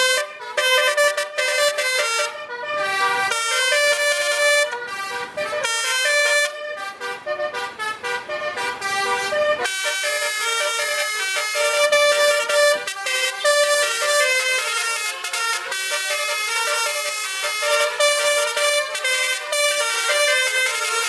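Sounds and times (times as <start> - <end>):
truck air horn playing a tune: 0.0 - 21.0.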